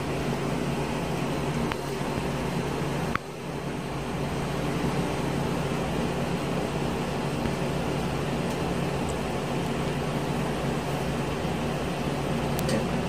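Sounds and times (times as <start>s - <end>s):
fan machine humming: 0.0s - 13.0s.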